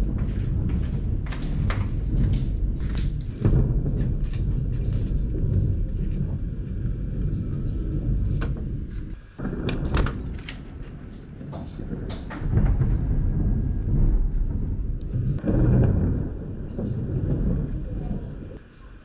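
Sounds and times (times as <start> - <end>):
rain rumble on camera housing: 0.0 - 19.0.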